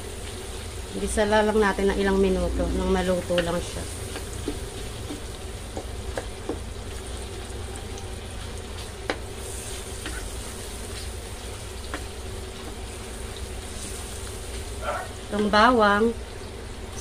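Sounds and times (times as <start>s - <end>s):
onion sizzling in butter: 0.0s - 17.0s.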